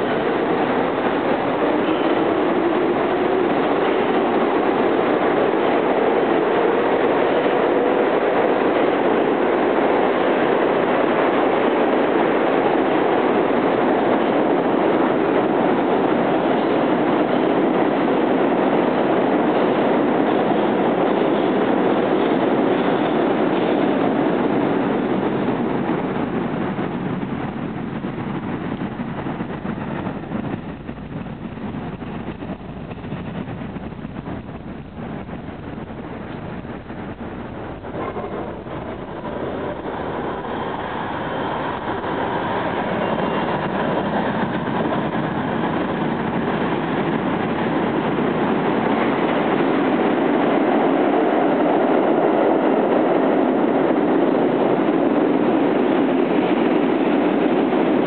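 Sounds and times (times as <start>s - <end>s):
subway trains rumbling: 0.0s - 58.0s.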